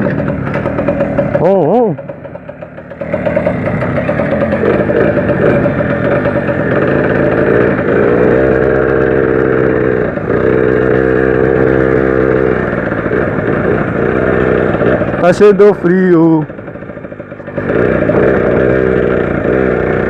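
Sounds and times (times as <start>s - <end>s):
moped engine running: 0.0s - 20.0s.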